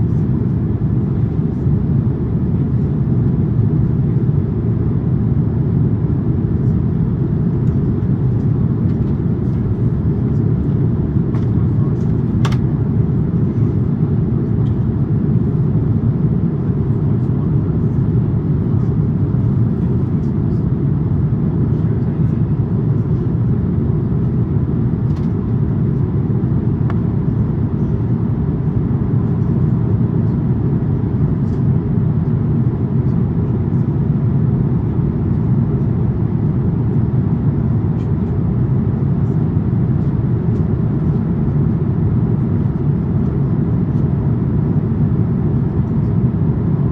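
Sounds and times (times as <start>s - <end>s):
airplane cabin roar: 0.0s - 46.9s.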